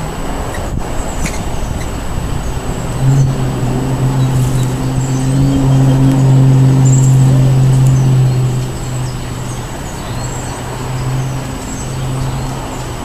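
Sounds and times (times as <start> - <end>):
vehicle engine rumble and hum: 0.0 - 13.0.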